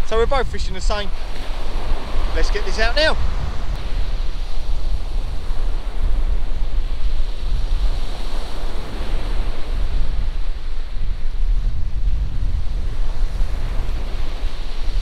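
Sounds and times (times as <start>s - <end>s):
surf washing: 0.0s - 15.0s
wind buffeting microphone: 0.0s - 15.0s.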